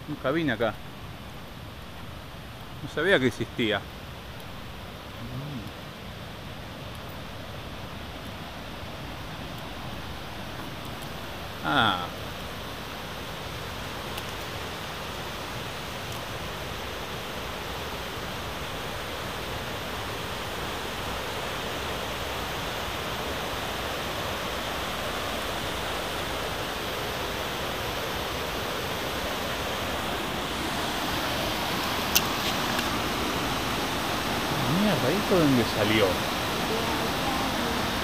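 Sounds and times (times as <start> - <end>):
water rushing over rocks: 0.0 - 38.0.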